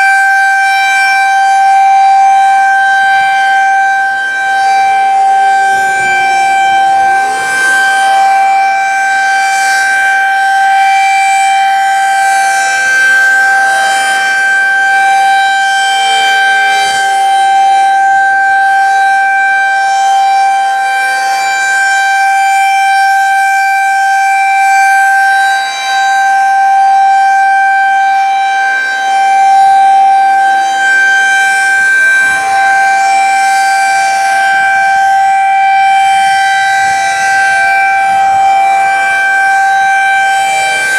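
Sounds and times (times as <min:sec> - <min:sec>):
distant mechanical sirens wailing: 0:00.0 - 0:21.4, 0:22.2 - 0:40.9
high-pitched electronic warning siren: 0:00.0 - 0:40.9.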